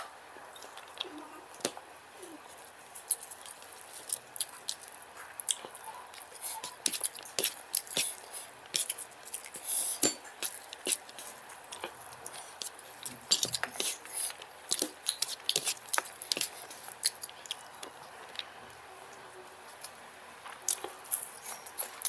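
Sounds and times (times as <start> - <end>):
chewing and lip smacks: 0.5 - 18.8, 19.7 - 22.0
fingers squishing rice: 0.6 - 18.5.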